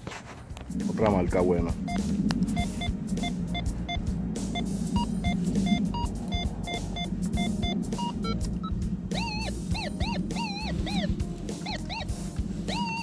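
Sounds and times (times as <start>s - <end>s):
higher detector beep: 1.8s - 13.0s
metal detector beeping: 1.8s - 13.0s.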